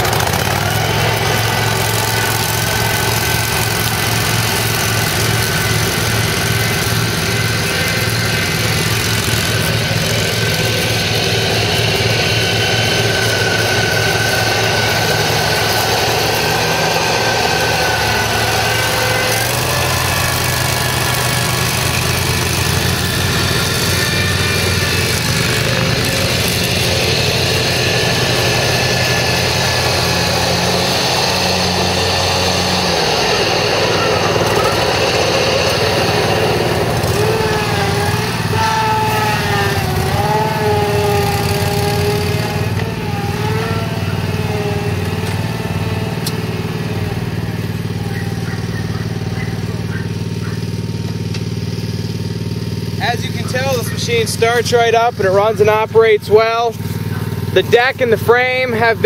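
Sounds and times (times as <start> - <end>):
mower engine running: 0.0 - 59.0.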